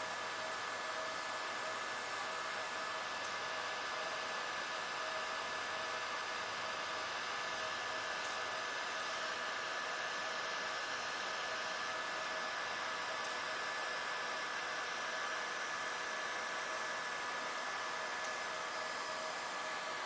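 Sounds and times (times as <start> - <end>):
fan motor whine: 0.0 - 20.0.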